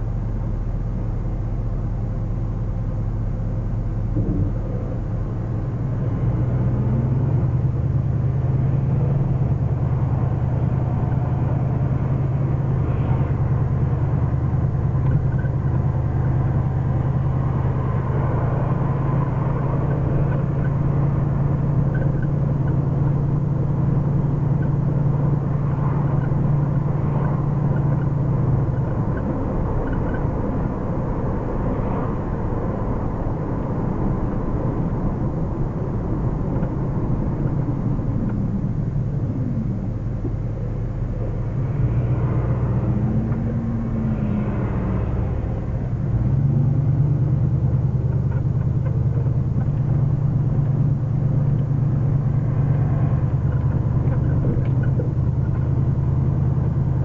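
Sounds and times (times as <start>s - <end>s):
car engine drone from cabin: 0.0s - 57.0s.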